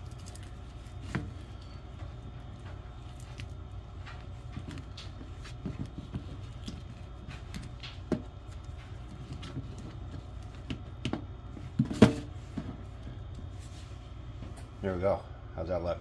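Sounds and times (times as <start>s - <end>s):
hands rolling a tortilla: 0.0s - 14.5s
steady low hum: 0.0s - 16.0s.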